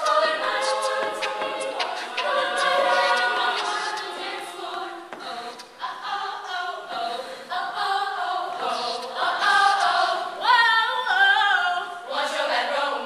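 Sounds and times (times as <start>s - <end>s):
female group singing a cappella: 0.0s - 13.0s.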